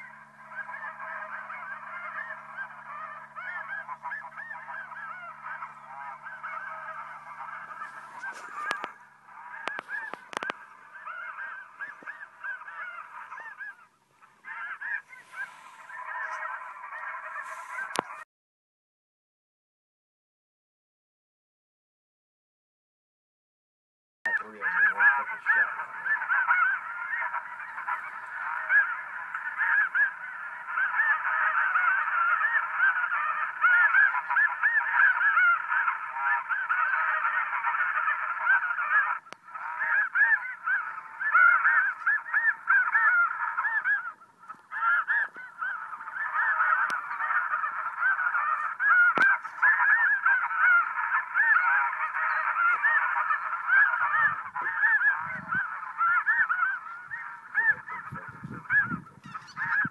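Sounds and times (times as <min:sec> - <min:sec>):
flock of geese honking: 0:00.0 - 0:18.2, 0:24.3 - 0:59.9.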